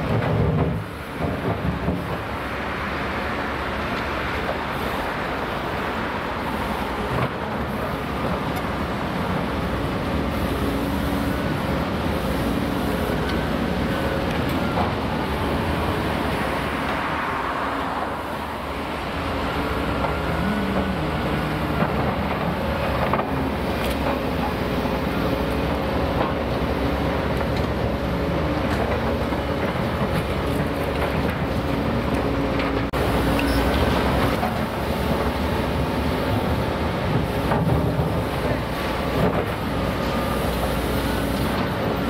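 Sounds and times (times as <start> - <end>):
engines running: 6.6 - 42.0.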